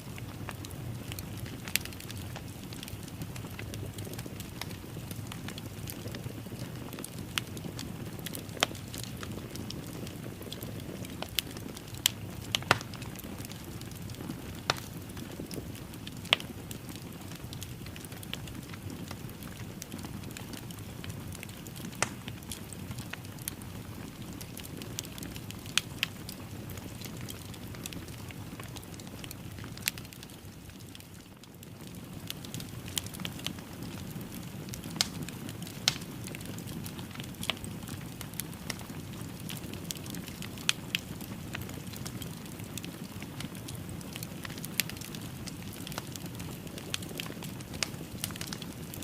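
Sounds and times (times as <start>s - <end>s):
fireplace fire crackling: 0.0s - 49.0s.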